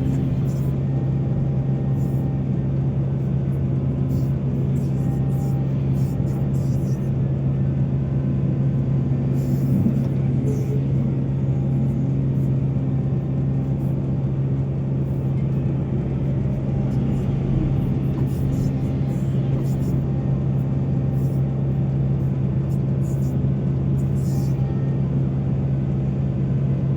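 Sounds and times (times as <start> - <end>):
diesel engine droning: 0.0 - 26.9.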